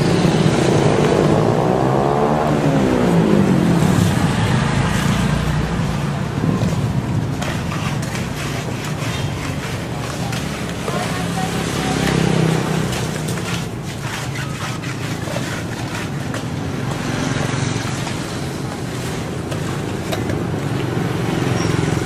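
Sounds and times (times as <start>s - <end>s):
constant rushing noise: 0.0s - 22.0s.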